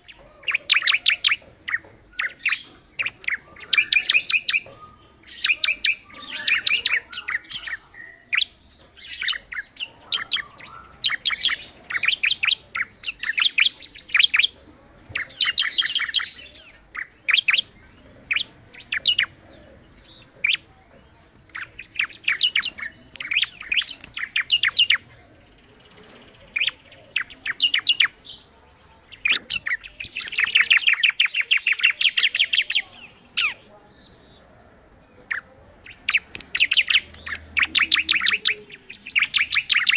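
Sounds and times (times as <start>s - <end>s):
bird rapid sharp chirps: 0.0s - 20.7s, 21.5s - 33.6s, 35.3s - 39.9s.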